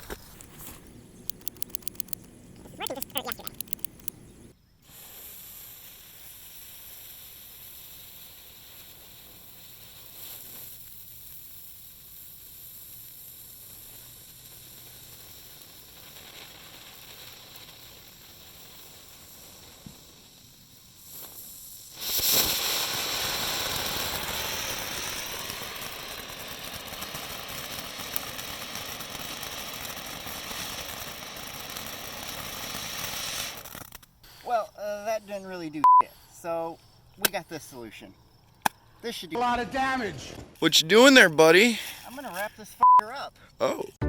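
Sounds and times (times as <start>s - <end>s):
firework fuse hissing: 0.0s - 42.8s
firework sizzling rush: 0.0s - 42.8s.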